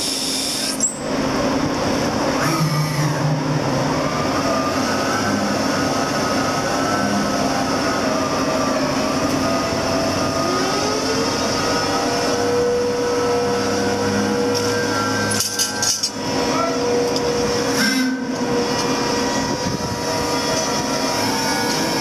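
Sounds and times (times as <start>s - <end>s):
ship winch mechanical drone: 0.0s - 22.0s
whining tones sliding in pitch: 2.4s - 22.0s.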